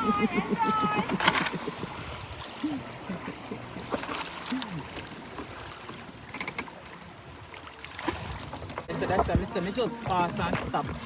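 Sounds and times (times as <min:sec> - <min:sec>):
river water running and trickling: 0:00.0 - 0:11.0.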